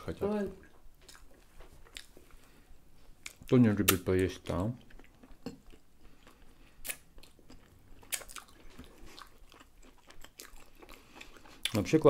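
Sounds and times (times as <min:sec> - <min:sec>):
people chewing: 0:00.6 - 0:12.0.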